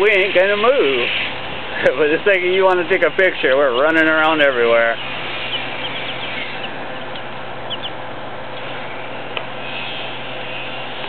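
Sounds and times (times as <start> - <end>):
chicks peeping: 0.0 - 11.0
steady background hiss: 0.0 - 11.0.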